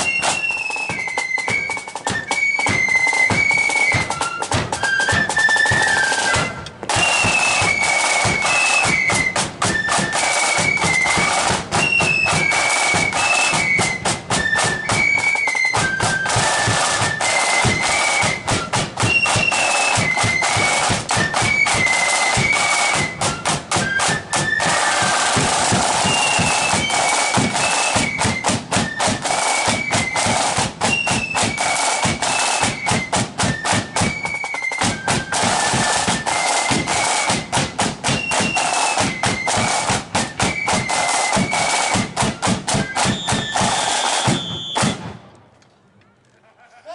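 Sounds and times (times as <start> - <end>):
flutes playing in unison: 0.0 - 45.1
side drums beating: 0.0 - 45.1.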